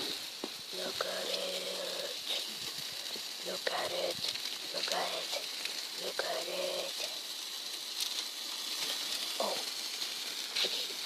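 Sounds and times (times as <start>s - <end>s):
ground fireworks hissing: 0.0s - 11.0s
sharp crackles: 0.0s - 11.0s.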